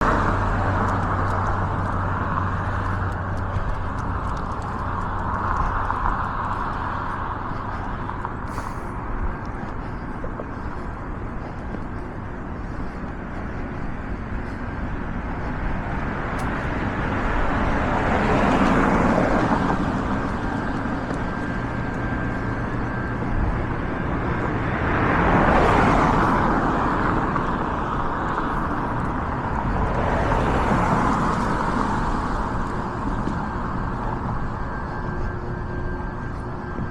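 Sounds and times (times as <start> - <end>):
cars passing close by: 0.0 - 36.9
hum of road traffic: 0.0 - 36.9.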